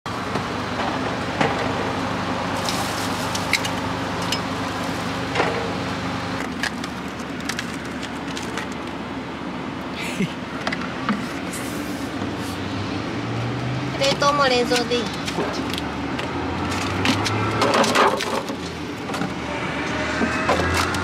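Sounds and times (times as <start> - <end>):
low mechanical hum: 0.1 - 21.0.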